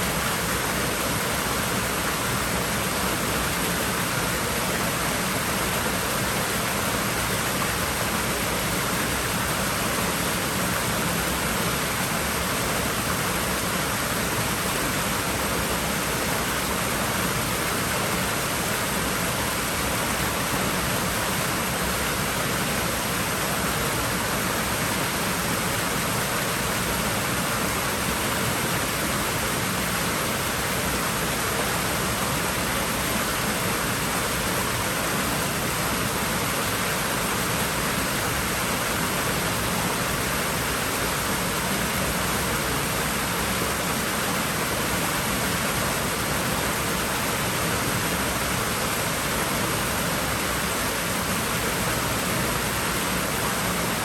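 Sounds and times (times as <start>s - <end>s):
pool water rushing and splashing: 0.0s - 54.0s.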